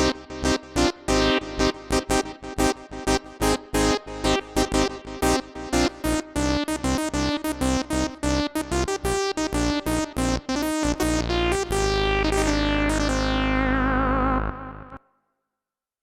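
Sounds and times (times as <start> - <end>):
synthesizer notes and chord: 0.0 - 15.0.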